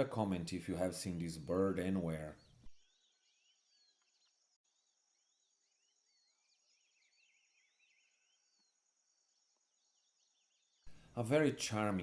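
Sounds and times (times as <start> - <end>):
faint forest birdsong: 0.0 - 12.0.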